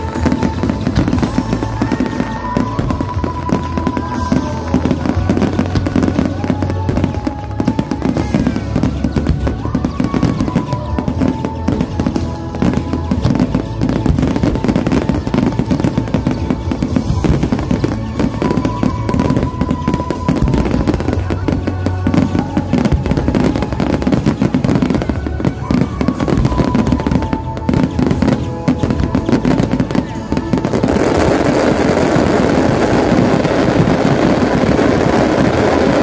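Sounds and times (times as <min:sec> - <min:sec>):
fireworks bursting and crackling: 0:00.0 - 0:36.0
music playing: 0:00.0 - 0:36.0.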